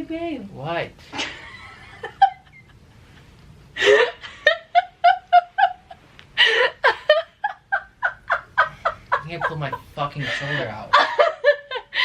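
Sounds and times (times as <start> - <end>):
woman laughing: 1.2 - 2.8, 3.8 - 12.0.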